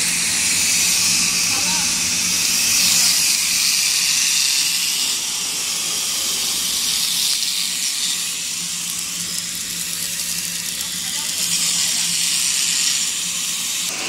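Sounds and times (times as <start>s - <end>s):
packaging machine hissing: 0.0s - 14.0s.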